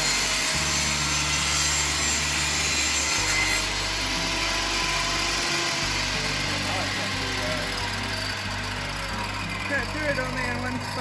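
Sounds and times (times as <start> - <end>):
power saw cutting wood: 0.0 - 11.0.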